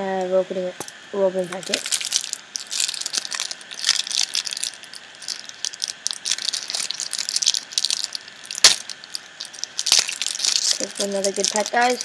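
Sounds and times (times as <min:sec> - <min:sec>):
foil packet crinkling: 0:01.4 - 0:12.0.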